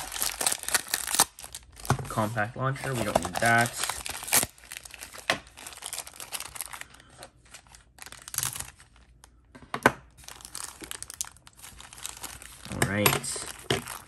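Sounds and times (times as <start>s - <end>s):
plastic bag crinkling and tearing: 0.0s - 9.3s, 10.2s - 14.0s.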